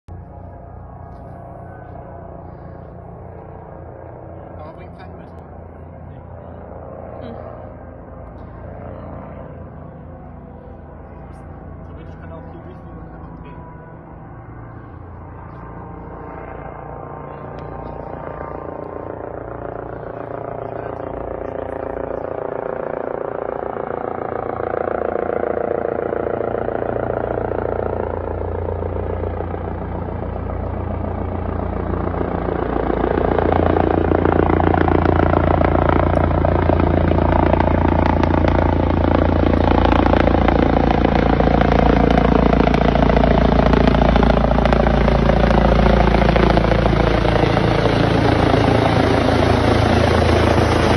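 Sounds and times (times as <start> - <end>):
helicopter rotor and turbine: 0.1 - 50.9.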